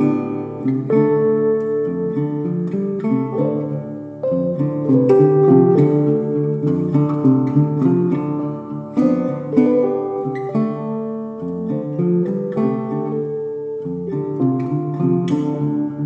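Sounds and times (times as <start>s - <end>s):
plucked acoustic guitar tune: 0.0s - 16.0s.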